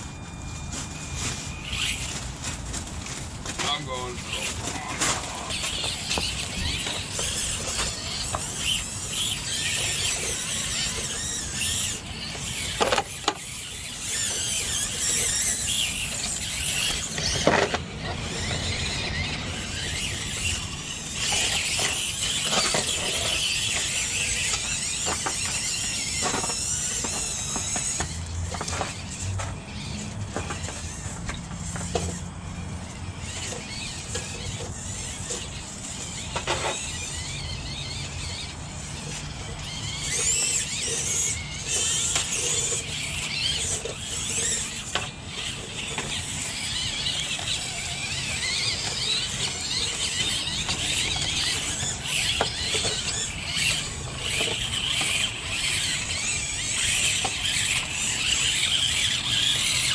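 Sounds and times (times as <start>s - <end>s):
toy car motors whining: 0.0s - 59.9s.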